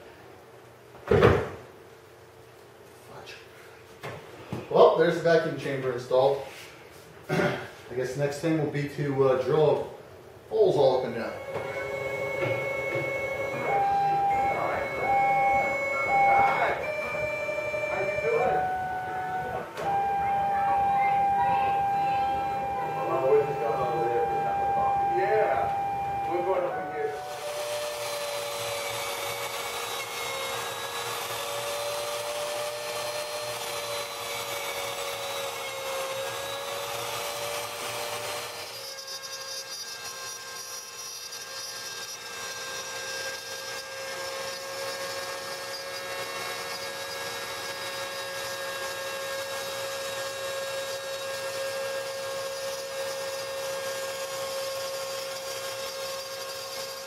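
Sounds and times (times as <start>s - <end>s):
router spindle whining: 10.9s - 57.0s.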